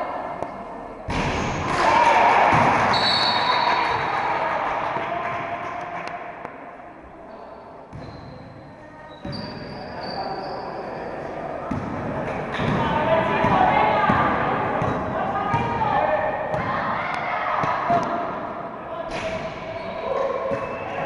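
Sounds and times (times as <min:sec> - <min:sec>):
players' voices echoing: 0:00.0 - 0:21.0.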